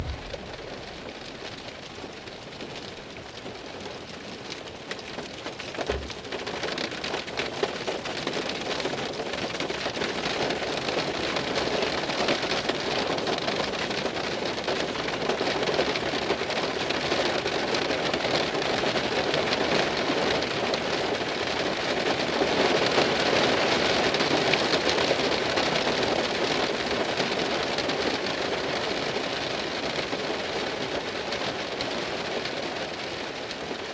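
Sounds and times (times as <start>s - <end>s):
heavy rain on car window: 0.0s - 33.9s.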